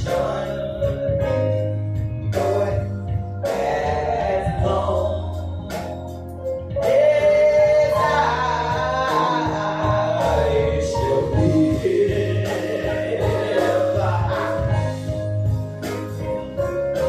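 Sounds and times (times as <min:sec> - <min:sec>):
solo gospel singing: 0:00.0 - 0:15.9
instrumental accompaniment with bass: 0:00.0 - 0:17.0.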